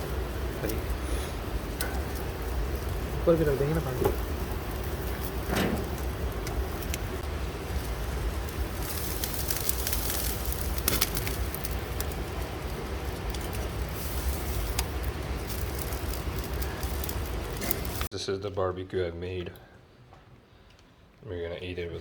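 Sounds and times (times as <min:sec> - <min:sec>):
low rumble: 0:00.0 - 0:18.1
meat sizzling on grill: 0:00.0 - 0:18.1.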